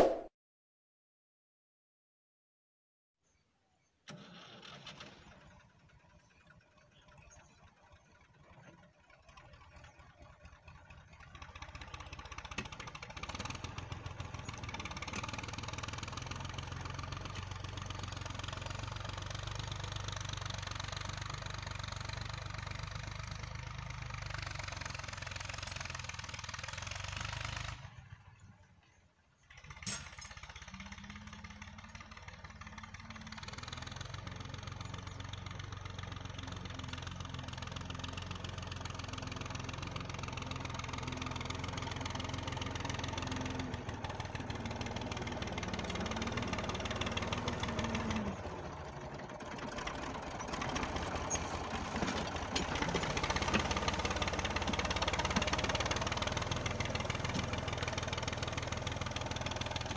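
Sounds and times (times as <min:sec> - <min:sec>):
tractor engine running: 0:04.1 - 0:59.9.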